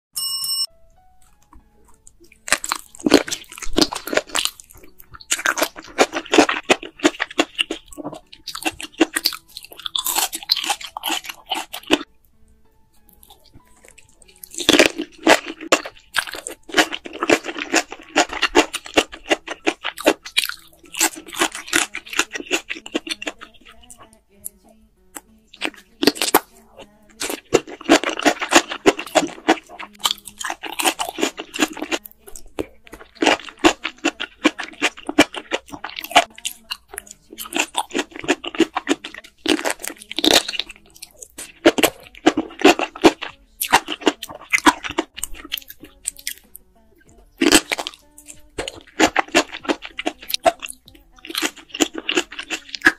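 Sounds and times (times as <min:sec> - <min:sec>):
wet crunchy chewing: 0:01.2 - 0:12.1, 0:13.0 - 0:52.9.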